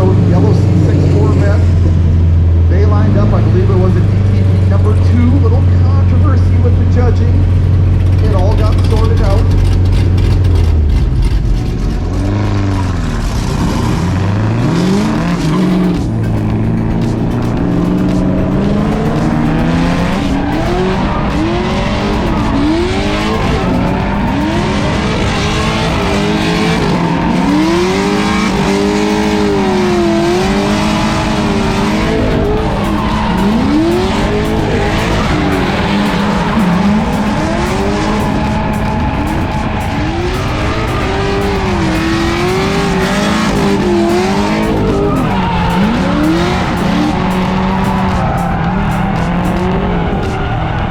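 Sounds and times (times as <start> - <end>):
car engines revving: 0.0 - 50.9
tire squeal: 0.0 - 50.9.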